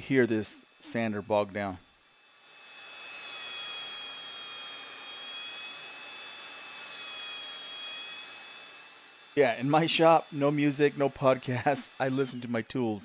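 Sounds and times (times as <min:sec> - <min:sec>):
belt sander whining: 0:00.0 - 0:13.0.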